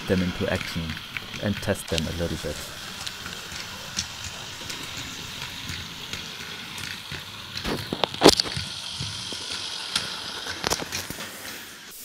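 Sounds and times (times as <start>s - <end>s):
wagons coupling clatter: 0.0s - 11.2s
model locomotive whirring: 0.0s - 12.0s
wheels clicking: 0.0s - 12.0s.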